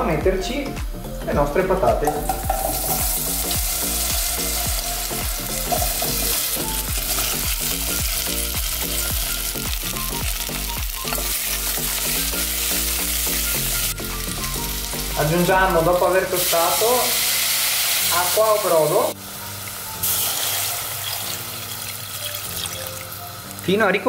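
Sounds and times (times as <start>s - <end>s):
background music with steady beat: 0.0s - 24.0s
potatoes sizzling in oil: 2.3s - 24.0s.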